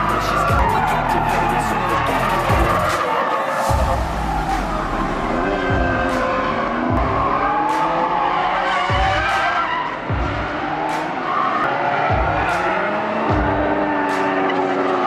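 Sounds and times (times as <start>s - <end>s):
background music with beat: 0.0s - 15.0s
car engines running: 0.0s - 15.0s.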